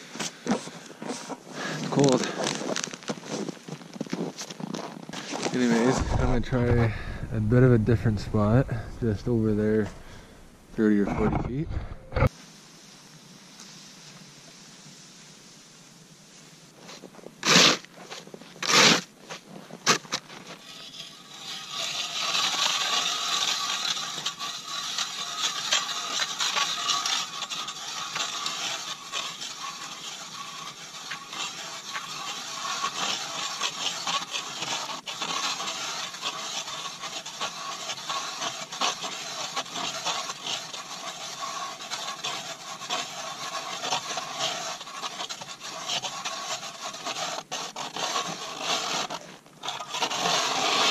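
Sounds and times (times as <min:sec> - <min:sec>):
ice auger scraping and grinding: 0:00.0 - 0:12.3, 0:16.8 - 0:50.9.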